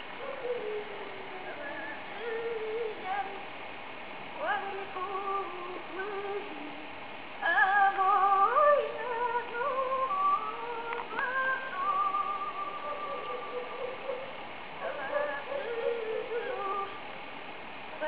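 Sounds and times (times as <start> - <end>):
woman singing with vibrato: 0.0 - 3.5, 4.4 - 17.1.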